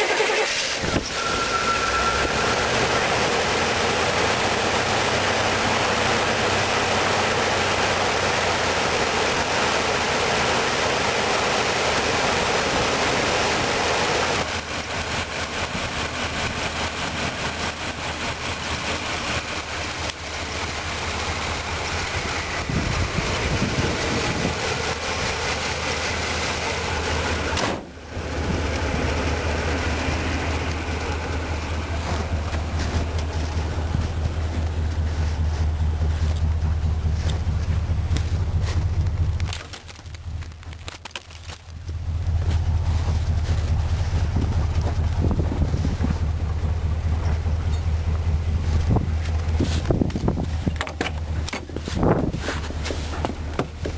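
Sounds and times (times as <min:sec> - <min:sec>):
car engine running: 0:00.0 - 0:53.9.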